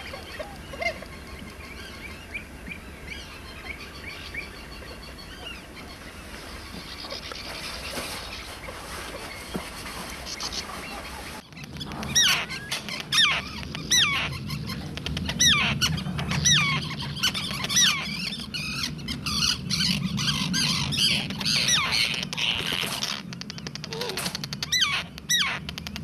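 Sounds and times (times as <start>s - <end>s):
bird agitated calls: 0.0s - 26.0s.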